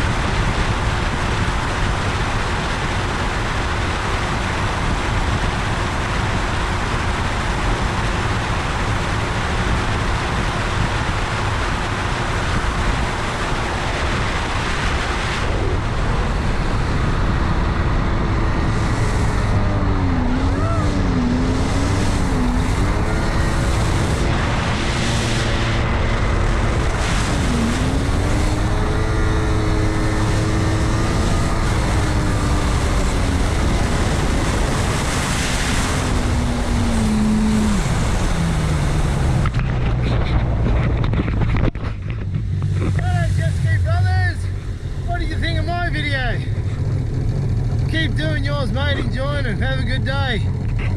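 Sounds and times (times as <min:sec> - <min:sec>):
water rushing: 0:00.0 - 0:40.5, 0:41.4 - 0:47.8
jet ski engine running: 0:00.0 - 0:50.9
wind: 0:00.0 - 0:50.9.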